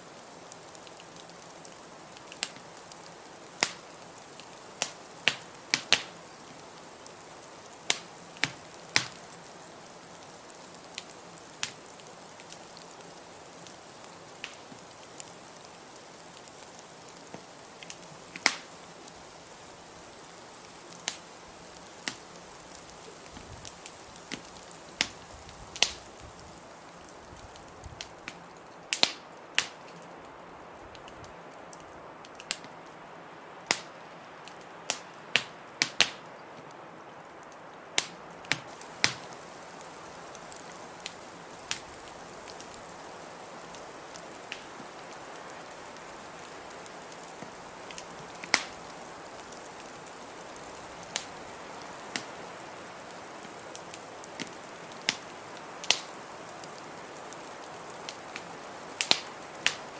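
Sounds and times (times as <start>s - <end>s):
wood fire crackling: 0.0s - 59.9s
sharp pops of fire: 0.8s - 9.4s, 10.2s - 19.5s, 20.1s - 30.0s, 30.9s - 32.8s, 33.6s - 36.4s, 38.0s - 59.9s.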